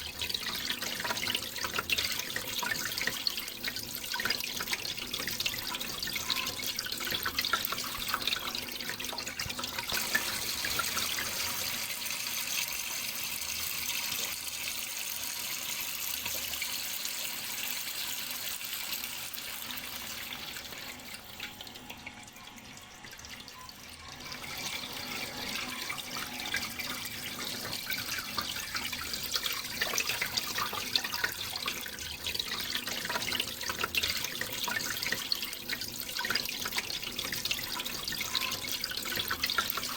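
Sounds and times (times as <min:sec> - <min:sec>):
small drips and splashes: 0:00.0 - 0:14.9, 0:15.7 - 0:39.9.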